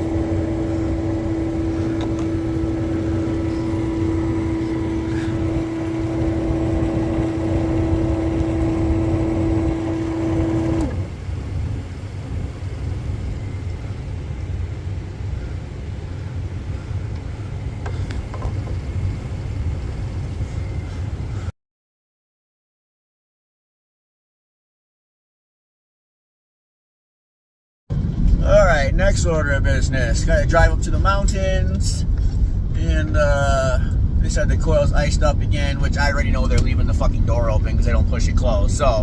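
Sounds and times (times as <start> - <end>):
air conditioner hum: 0.0 - 21.5, 27.9 - 39.0
low rumble: 0.0 - 21.5, 27.9 - 39.0.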